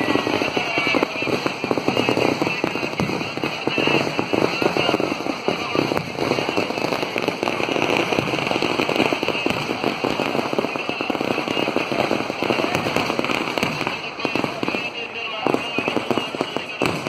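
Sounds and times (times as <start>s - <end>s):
firecrackers going off: 0.0s - 17.0s.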